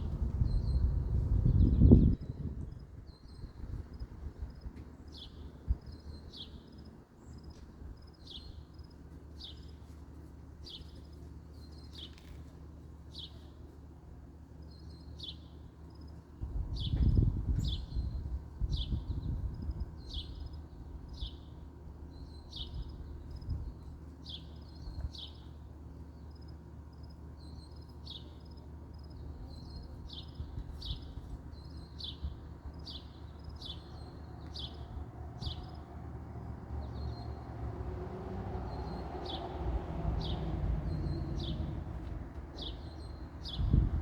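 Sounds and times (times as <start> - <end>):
low background rumble: 0.0 - 44.0.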